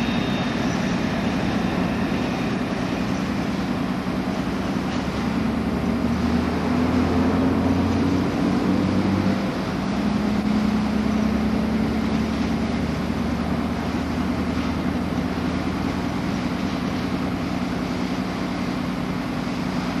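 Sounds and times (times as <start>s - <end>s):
diesel locomotive engines droning: 0.0s - 20.0s.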